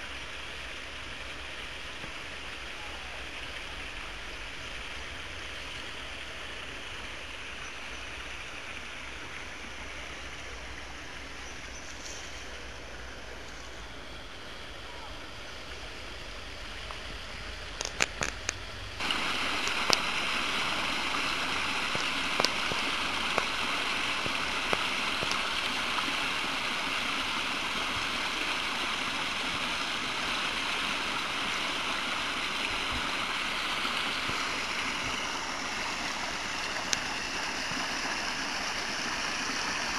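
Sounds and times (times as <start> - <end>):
steady hiss with low rumble: 0.0 - 39.9
stream trickling and splashing: 0.0 - 39.9.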